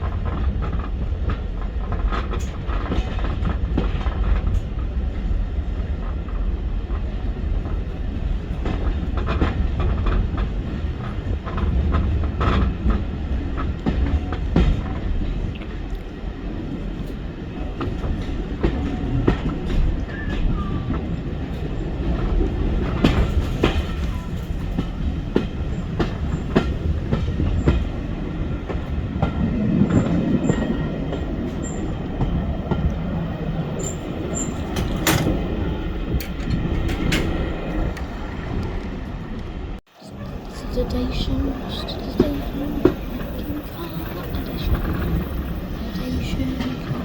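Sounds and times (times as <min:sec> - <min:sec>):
wheels clicking and knocking on rails: 0:00.0 - 0:39.6, 0:40.4 - 0:47.0
train rumbling: 0:00.0 - 0:47.0.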